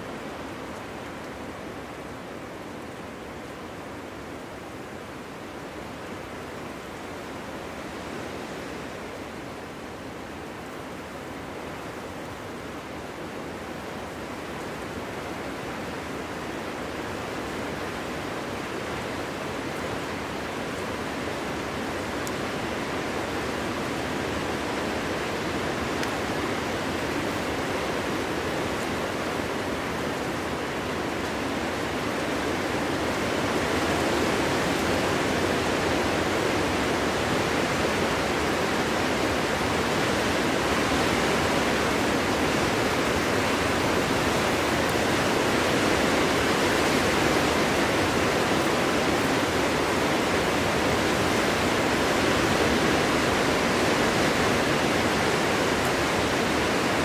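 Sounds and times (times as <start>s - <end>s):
wind through forest: 0.0s - 57.0s.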